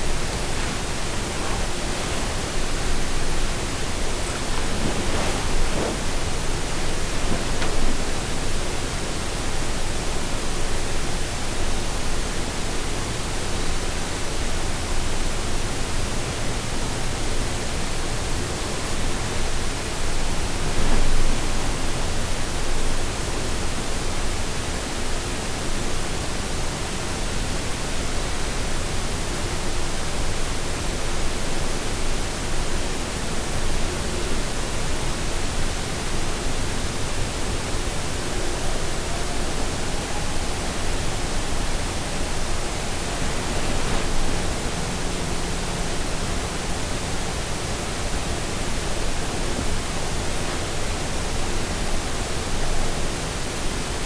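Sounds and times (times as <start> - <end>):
steady hiss: 0.0 - 24.6, 29.1 - 54.0.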